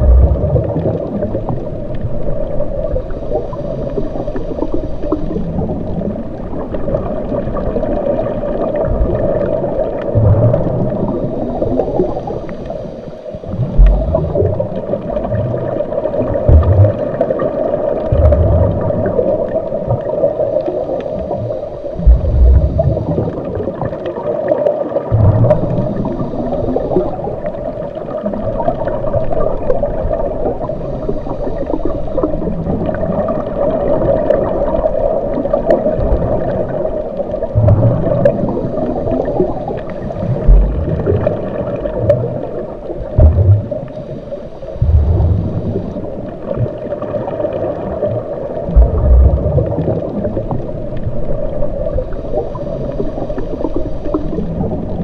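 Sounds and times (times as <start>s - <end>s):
water gurgling: 0.0s - 55.0s.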